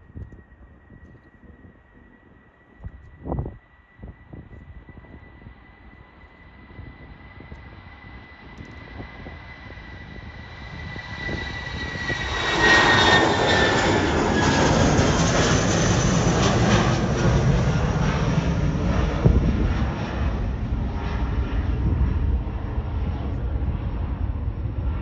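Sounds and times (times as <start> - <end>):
jet engines passing: 0.0 - 25.0.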